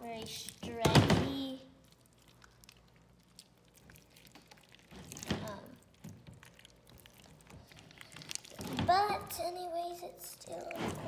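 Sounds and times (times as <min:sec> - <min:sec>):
slime squelching: 0:00.0 - 0:11.0.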